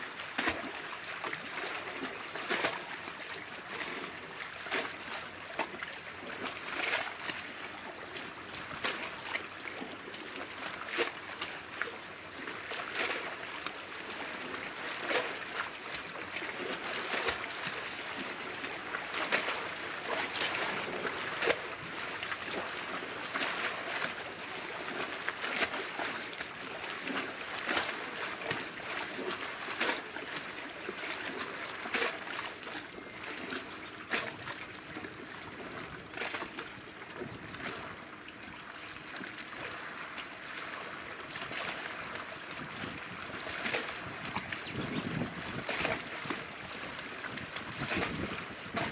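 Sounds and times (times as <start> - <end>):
small waves lapping: 0.0 - 48.9
short water splashes: 0.2 - 48.9.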